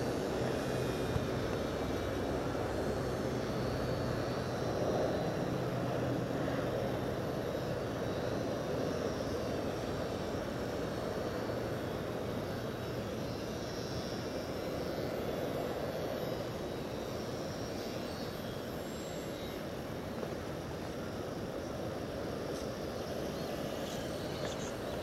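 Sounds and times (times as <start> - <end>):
model aircraft motor whine: 0.0 - 25.0.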